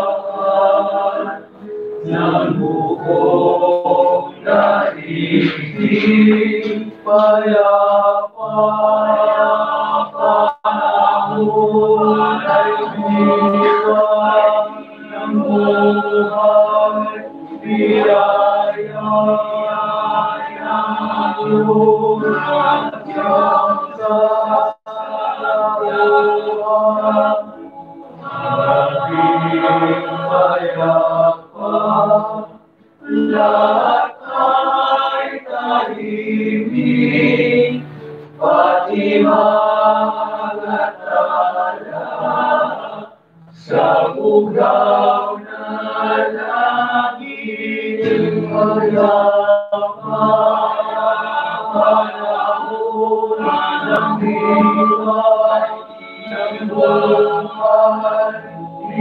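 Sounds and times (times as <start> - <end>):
male choir singing: 0.0 - 59.0.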